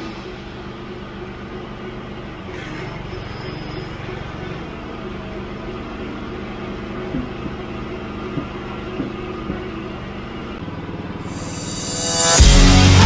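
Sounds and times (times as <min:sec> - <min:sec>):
bandsaw mill engine idling: 0:00.0 - 0:13.0.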